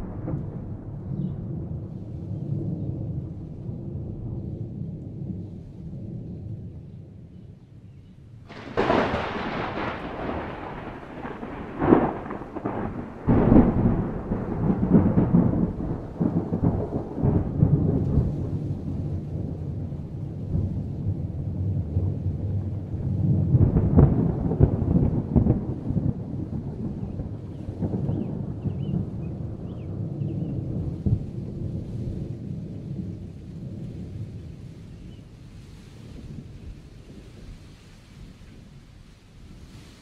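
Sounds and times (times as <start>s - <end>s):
thunder cracking and rumbling: 0.0s - 7.2s, 8.4s - 35.4s, 36.0s - 39.6s.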